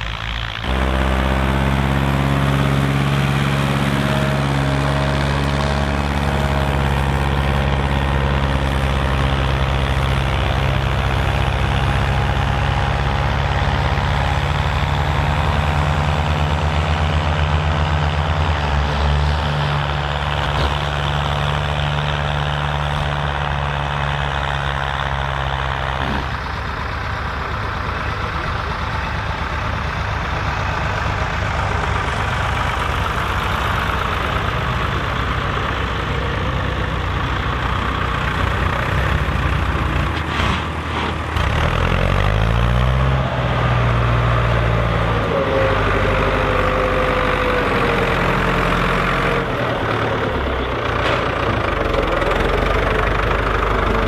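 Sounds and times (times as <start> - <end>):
rough tractor engine: 0.0 - 54.0
tractor engine working under load: 0.0 - 54.0.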